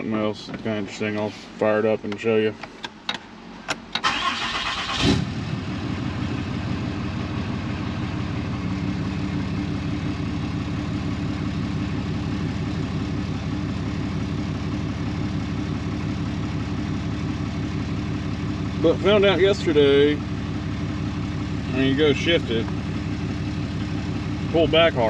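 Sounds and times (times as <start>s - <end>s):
pickup engine starting and idling: 3.7s - 25.0s.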